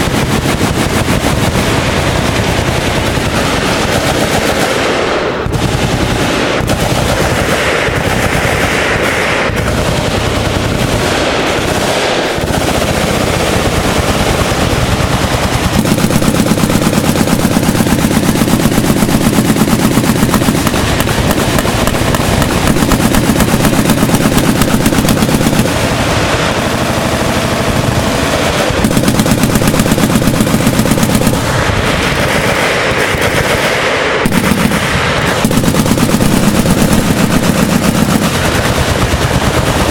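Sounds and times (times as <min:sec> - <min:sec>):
automatic machine-gun fire: 0:00.0 - 0:39.9.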